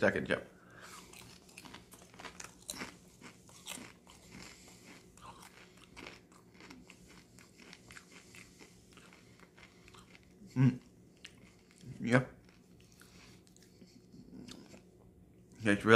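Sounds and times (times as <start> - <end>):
person chewing crunchy chips: 0.8 - 14.9.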